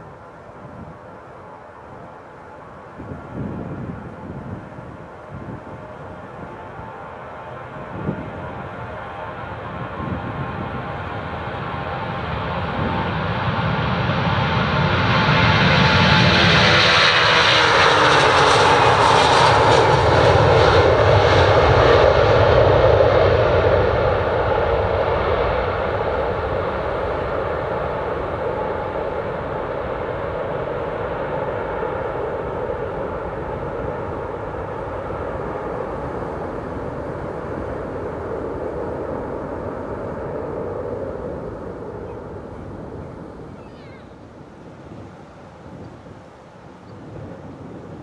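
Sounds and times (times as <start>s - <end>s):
jet engines roaring at takeoff: 0.0s - 48.0s.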